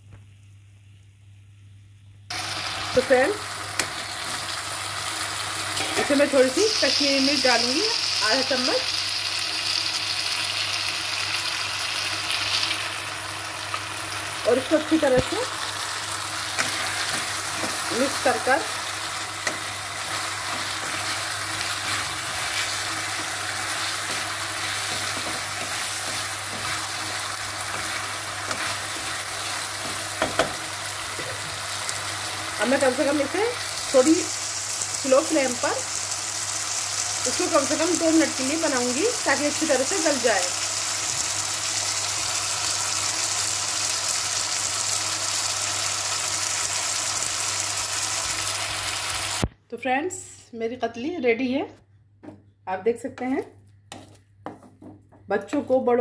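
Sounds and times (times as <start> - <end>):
potato slices sizzling in pan: 2.3 - 49.5.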